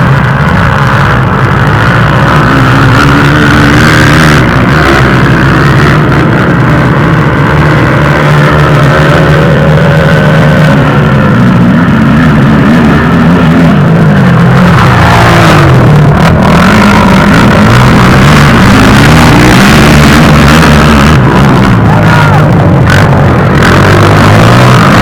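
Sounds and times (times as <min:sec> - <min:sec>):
quad engines revving: 0:00.0 - 0:25.0.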